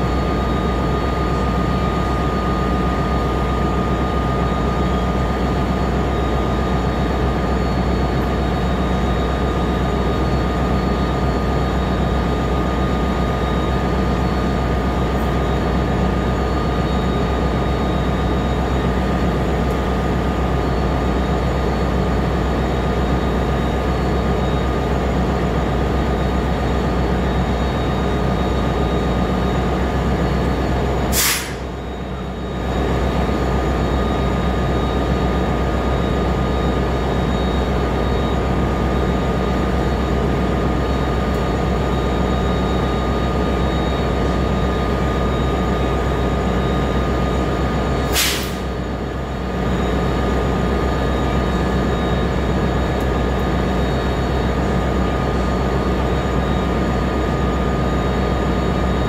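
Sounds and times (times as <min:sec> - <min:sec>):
thin steady whine: 0:00.0 - 0:59.0
train engine humming: 0:00.0 - 0:59.0.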